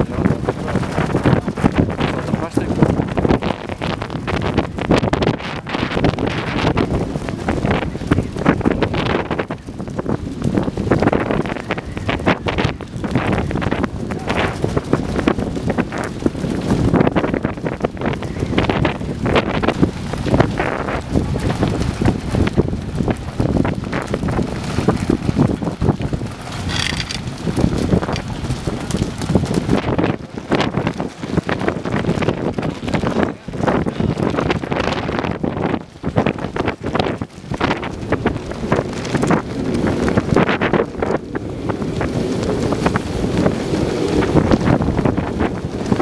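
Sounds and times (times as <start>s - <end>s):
large fire crackling and rumbling: 0.0s - 46.0s
wind buffeting microphone: 0.0s - 46.0s.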